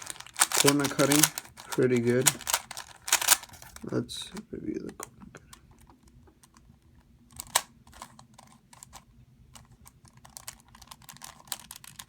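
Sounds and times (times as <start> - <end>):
puzzle cube clicking and clacking: 0.0 - 6.6, 7.4 - 9.0, 10.1 - 12.0.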